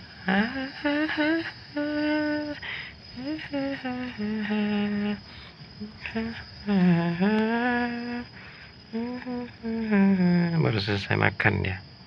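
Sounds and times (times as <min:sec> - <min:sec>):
person humming a slow tune: 0:00.0 - 0:10.6.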